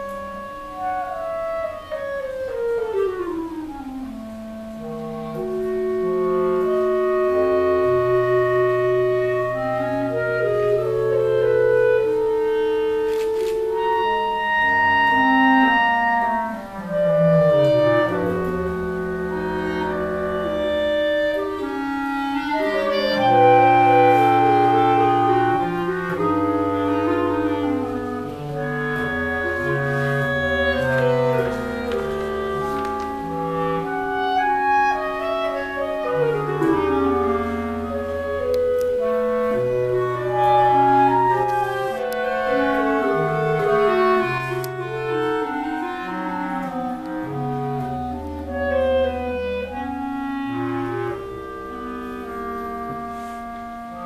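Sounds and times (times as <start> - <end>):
clarinet quartet playing: 0.0 - 54.0.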